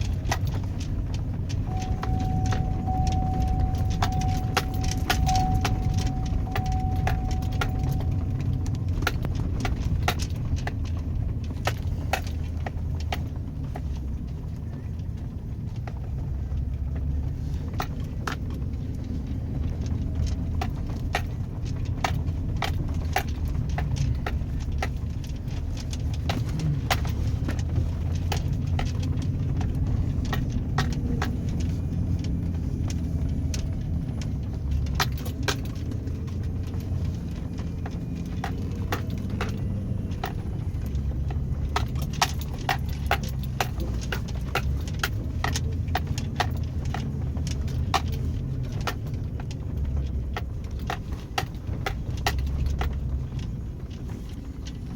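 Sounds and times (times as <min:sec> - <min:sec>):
sharp clicks and rattles: 0:00.0 - 0:54.9
truck engine and road rumble: 0:00.0 - 0:54.9.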